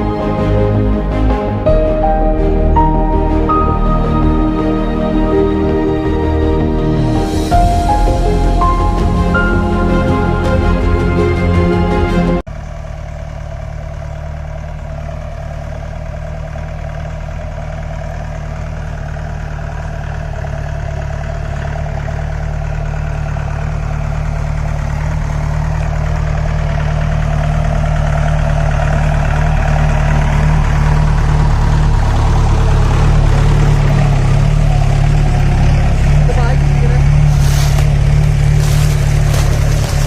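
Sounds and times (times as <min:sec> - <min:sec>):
jeep engine running: 0:00.0 - 0:40.0.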